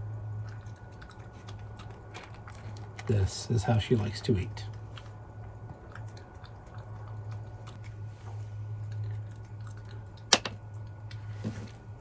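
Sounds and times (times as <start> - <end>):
steady low hum: 0.0 - 12.0
dog chewing food: 0.1 - 11.3.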